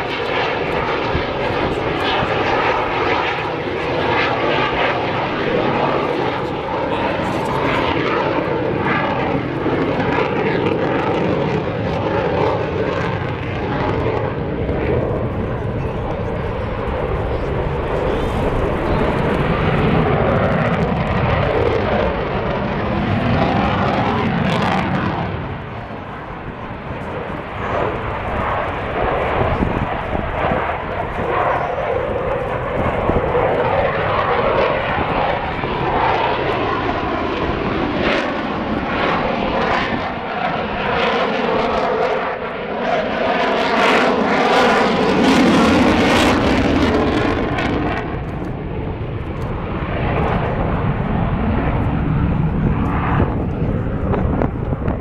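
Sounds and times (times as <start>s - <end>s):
fighter jet engine roar: 0.0s - 55.0s.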